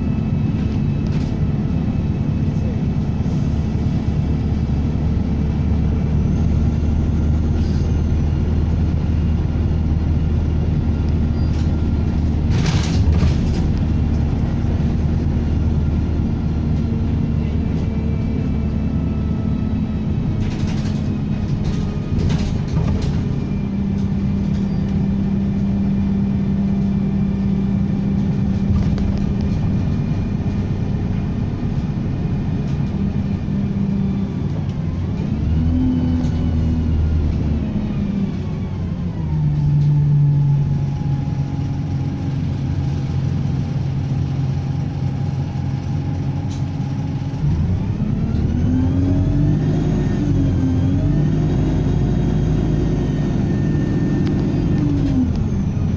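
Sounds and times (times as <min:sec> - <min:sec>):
diesel bus engine running: 0:00.0 - 0:55.9.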